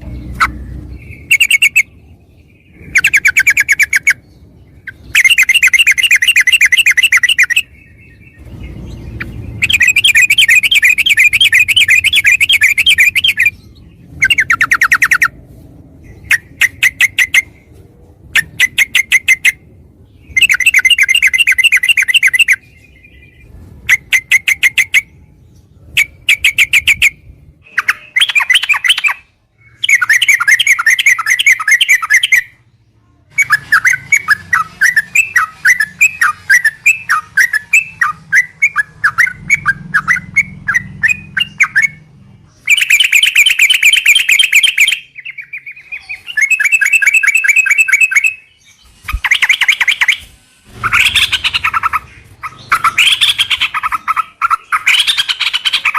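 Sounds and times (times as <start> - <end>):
bird singing in chattering bursts: 0.0 - 15.4, 16.0 - 17.7, 18.3 - 32.6, 33.3 - 55.9.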